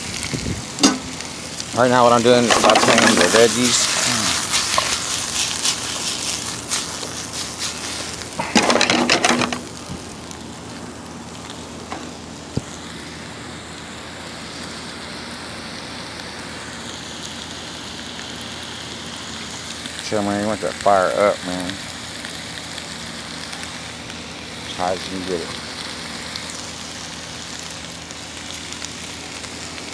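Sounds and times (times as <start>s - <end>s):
vegetables sizzling in hot oil: 0.0s - 29.9s.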